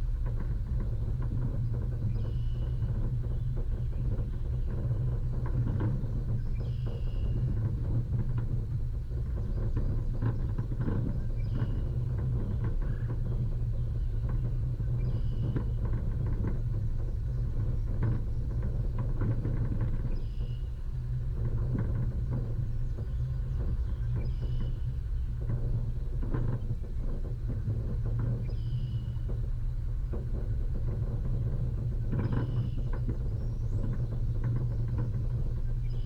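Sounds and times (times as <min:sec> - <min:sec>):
off-road vehicle rumbling: 0:00.0 - 0:36.0.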